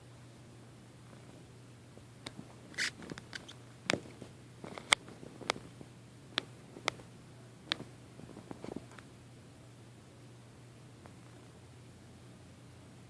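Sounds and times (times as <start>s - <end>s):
faint steady low hum: 0.0s - 13.0s.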